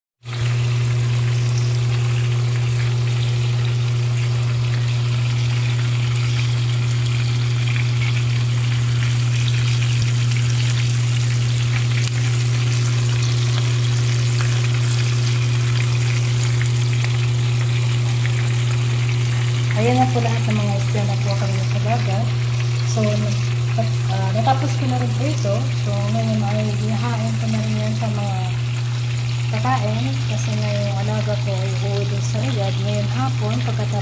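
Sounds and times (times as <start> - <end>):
fish sizzling in oil: 0.2 - 34.0
oil crackling and popping: 0.2 - 34.0.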